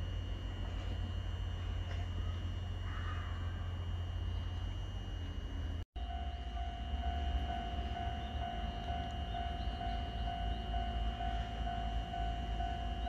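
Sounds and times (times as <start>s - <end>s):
level-crossing alarm ringing: 0.0s - 13.0s.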